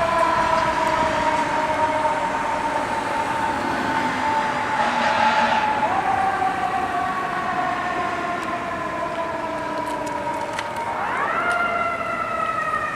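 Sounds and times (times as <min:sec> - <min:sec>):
fire engine siren wailing: 0:00.0 - 0:12.9.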